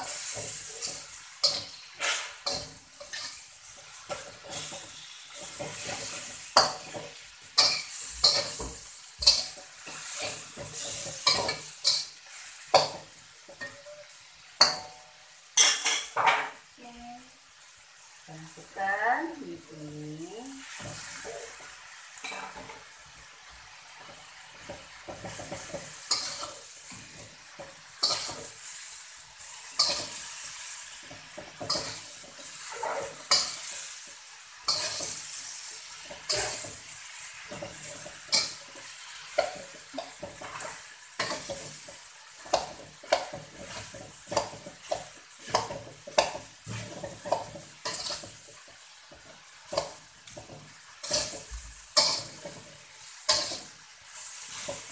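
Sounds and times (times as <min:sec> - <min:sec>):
metal turner scraping wok: 0:00.0 - 0:15.0, 0:24.0 - 0:54.9
food sizzling: 0:00.0 - 0:54.9.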